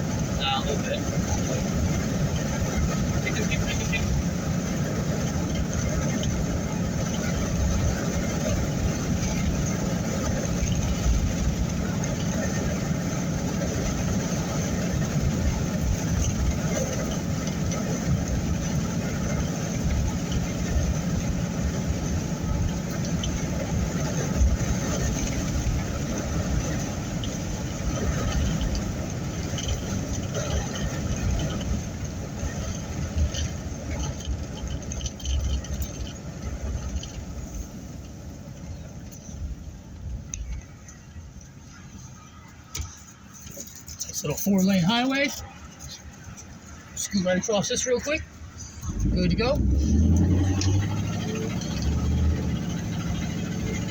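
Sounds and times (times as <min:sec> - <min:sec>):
vehicle road and engine noise: 0:00.0 - 0:53.9.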